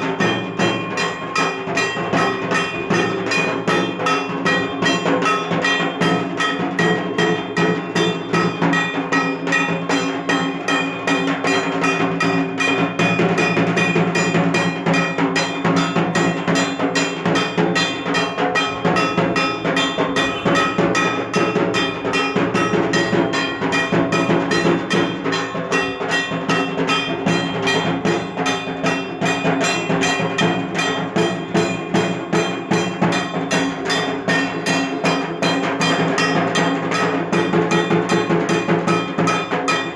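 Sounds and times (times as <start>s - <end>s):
barrel drum fast rhythm: 0.0s - 39.9s.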